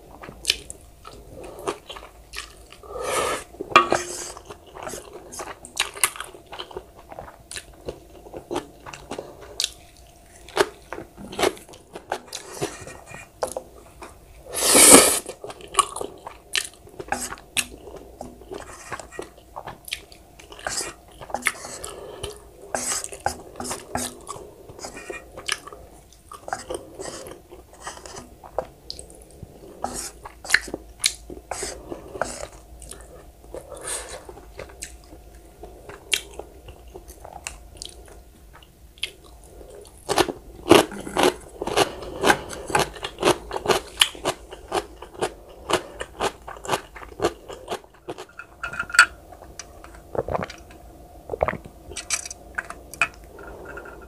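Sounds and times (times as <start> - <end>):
person chewing noodles: 0.1 - 48.6, 49.2 - 54.0.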